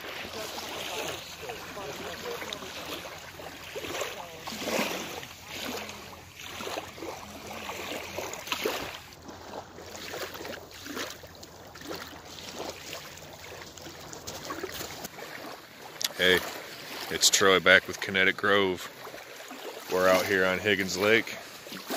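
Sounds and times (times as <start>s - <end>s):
small waves lapping on shore: 0.0s - 21.9s.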